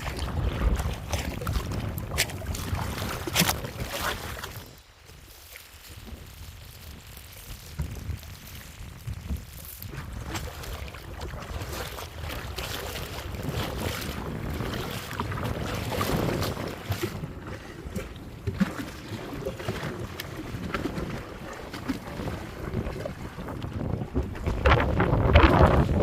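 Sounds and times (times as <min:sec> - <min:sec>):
water splashing and sloshing: 0:00.0 - 0:26.0
wind rumble on microphone: 0:00.0 - 0:26.0.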